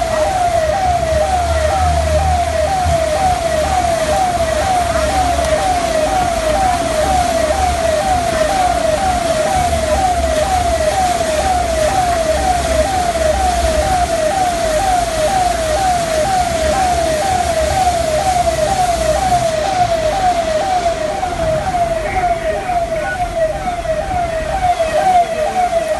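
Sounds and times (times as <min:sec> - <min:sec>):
electronic siren falling tone: 0:00.0 - 0:25.9
rain hiss: 0:01.0 - 0:23.4.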